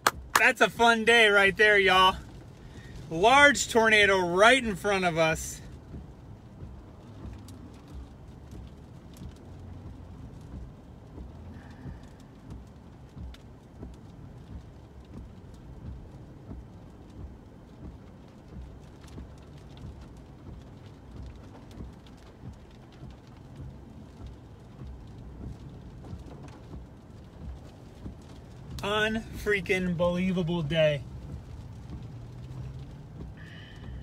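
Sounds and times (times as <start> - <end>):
car road rumble: 0.0 - 34.0
rain pattering on windshield: 0.0 - 34.0
windshield wipers sweeping: 0.0 - 34.0.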